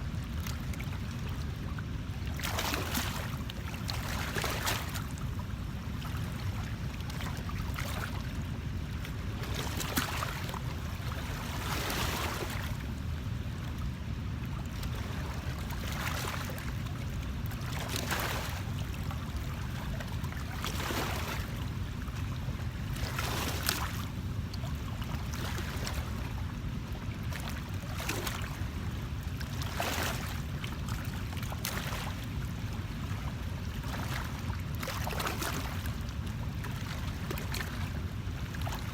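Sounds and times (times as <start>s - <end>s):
small waves lapping: 0.0s - 38.9s.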